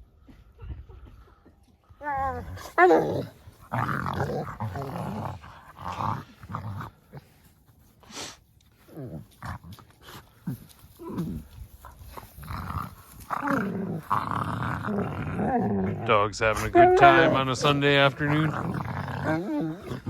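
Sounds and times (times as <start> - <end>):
dog growling: 2.0 - 7.4, 8.8 - 20.0.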